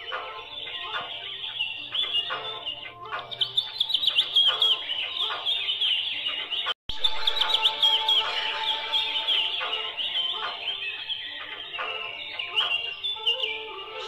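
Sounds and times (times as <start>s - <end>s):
birds chirping: 0.0s - 14.0s
soft background music: 0.0s - 14.0s.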